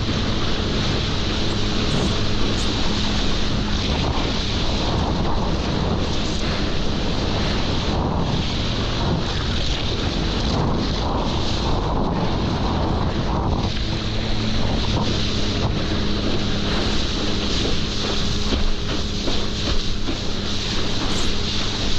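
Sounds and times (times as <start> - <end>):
jet ski engine droning: 0.0 - 21.9
water rushing: 0.0 - 21.9
wind buffeting microphone: 0.0 - 21.9.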